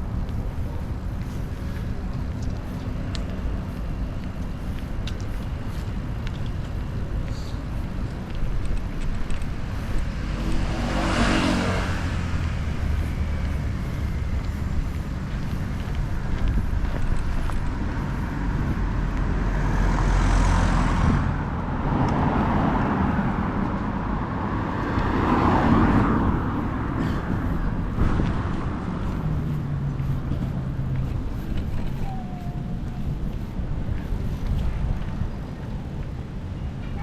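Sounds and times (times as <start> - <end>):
low engine hum: 0.0 - 37.0
road traffic rumble: 0.0 - 37.0
vehicles passing close by: 0.0 - 37.0.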